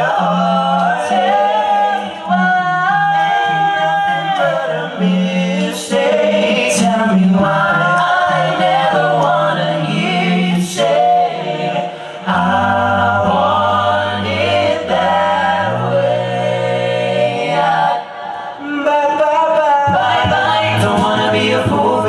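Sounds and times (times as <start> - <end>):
male group singing harmonies: 0.0 - 22.0.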